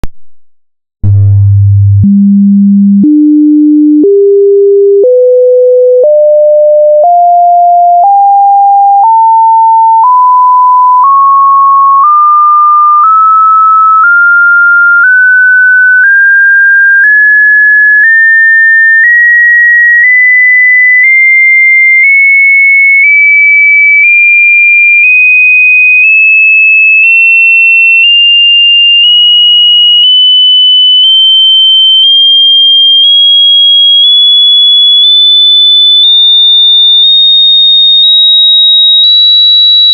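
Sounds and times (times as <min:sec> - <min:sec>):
sine test tones stepping up in pitch: 0:00.0 - 0:39.9.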